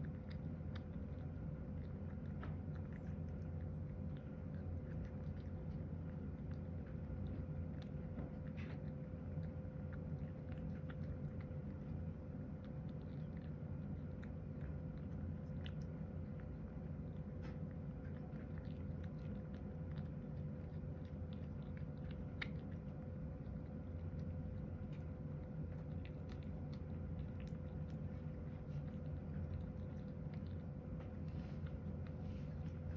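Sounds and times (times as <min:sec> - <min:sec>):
cat chewing and lapping: 0:00.0 - 0:32.9
steady low hum: 0:00.0 - 0:32.9.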